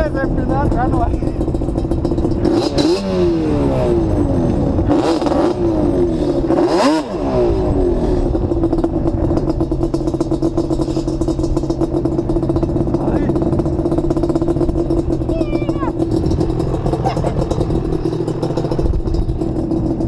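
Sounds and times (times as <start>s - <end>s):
quad bike engines revving: 0.0s - 20.0s.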